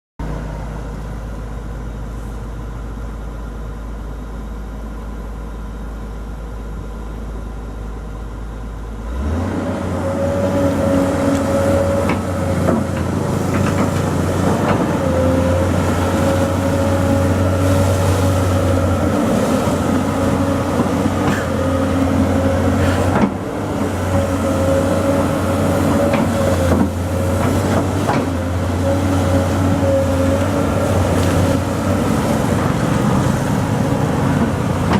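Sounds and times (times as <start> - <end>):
excavator diesel engine: 0.2 - 34.9.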